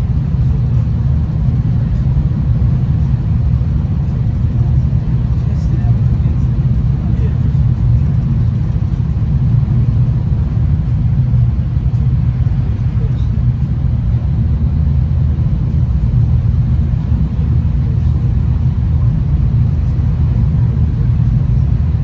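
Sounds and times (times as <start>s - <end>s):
train rumbling on the track: 0.0s - 22.0s.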